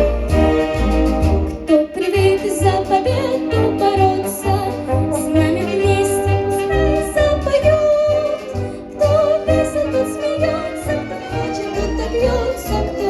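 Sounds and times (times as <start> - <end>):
upbeat instrumental music: 0.0 - 13.0.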